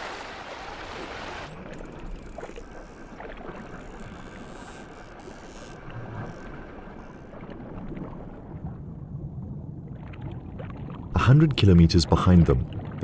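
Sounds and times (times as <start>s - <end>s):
sea water rushing: 0.0s - 13.0s.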